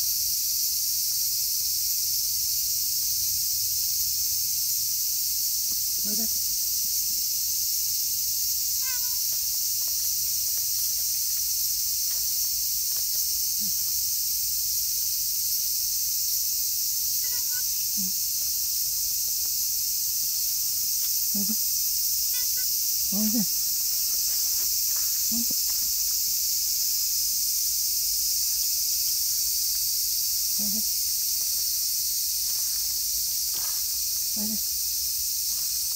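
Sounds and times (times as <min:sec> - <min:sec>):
high-pitched insect chorus: 0:00.0 - 0:35.9.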